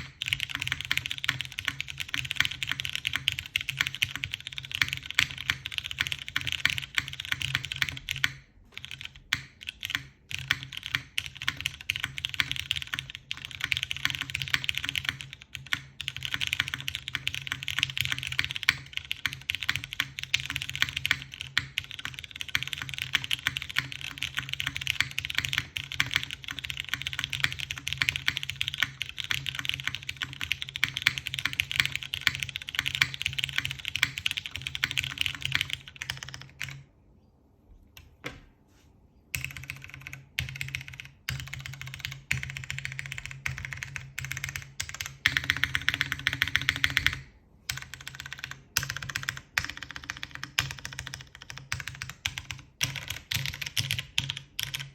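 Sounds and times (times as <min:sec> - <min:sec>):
mechanical keyboard typing: 0:00.0 - 0:36.9, 0:39.3 - 0:54.9.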